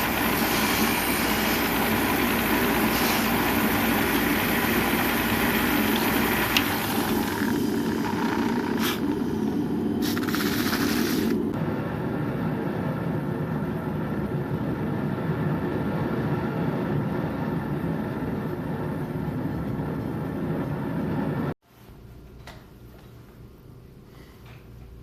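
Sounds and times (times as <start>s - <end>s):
machine rumble and hiss: 0.0s - 21.9s.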